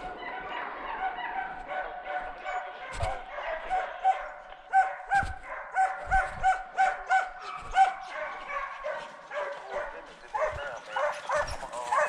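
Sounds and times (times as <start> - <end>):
dog barking: 0.0 - 12.0
hounds baying: 0.0 - 12.0.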